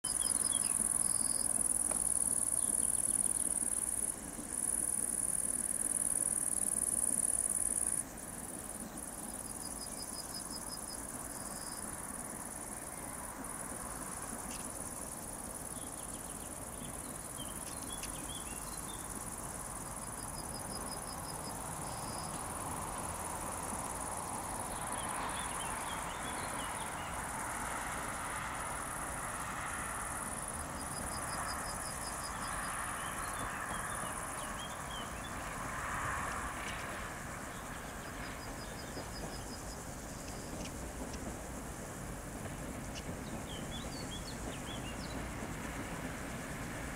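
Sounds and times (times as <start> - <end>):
crickets chirring: 0.0 - 46.9
faint insect trills: 0.0 - 46.9
diesel locomotives rumbling: 0.1 - 46.9.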